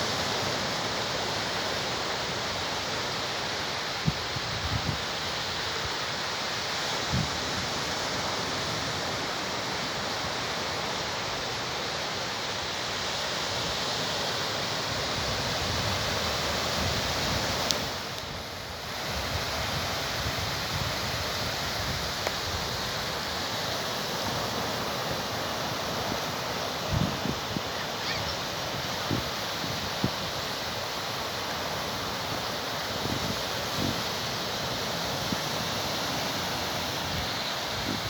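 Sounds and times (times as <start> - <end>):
sea surf breaking on shore: 0.0 - 38.0.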